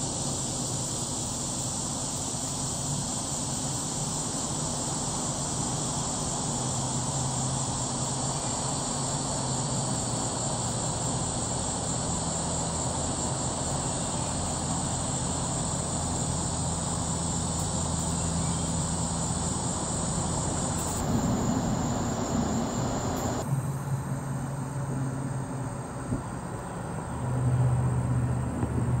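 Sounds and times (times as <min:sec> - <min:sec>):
insects buzzing: 0:00.0 - 0:29.0
low engine-like hum: 0:00.0 - 0:29.0.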